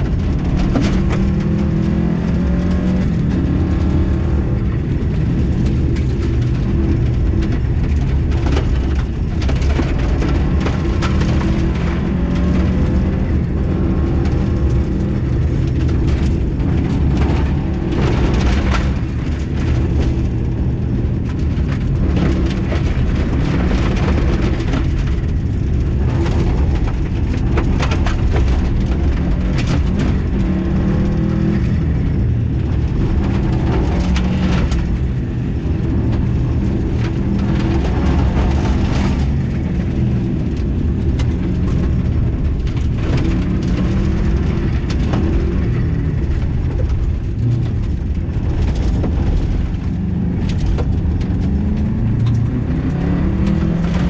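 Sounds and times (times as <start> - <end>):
car engine at high revs: 0.0 - 54.0
gravel clattering against underbody: 0.0 - 54.0.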